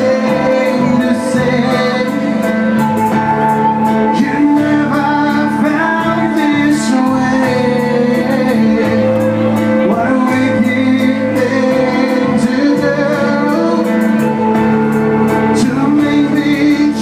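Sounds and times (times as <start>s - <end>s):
live band music: 0.0s - 17.0s
man singing into a microphone: 0.0s - 17.0s.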